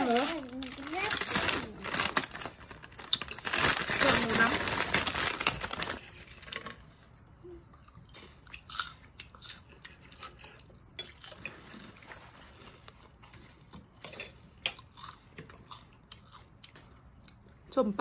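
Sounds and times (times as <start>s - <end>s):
crunching and chewing crackers: 0.0s - 17.7s.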